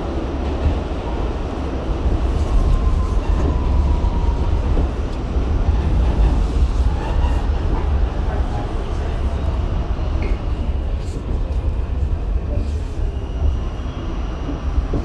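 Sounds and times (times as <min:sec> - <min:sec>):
subway train rumbling on track: 0:00.0 - 0:15.0.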